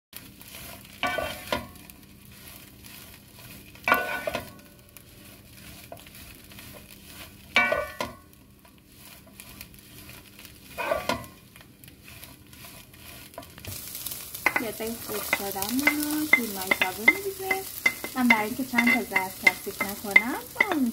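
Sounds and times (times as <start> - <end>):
faint sizzle: 0.2 - 20.9
wooden spoon stirring in a pan: 0.2 - 20.9.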